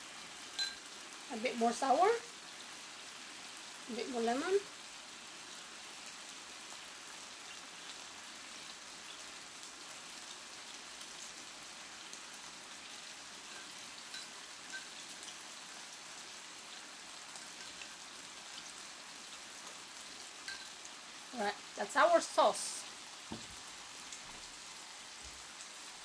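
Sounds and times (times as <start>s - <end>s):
meat sizzling in a skillet: 0.0s - 26.0s.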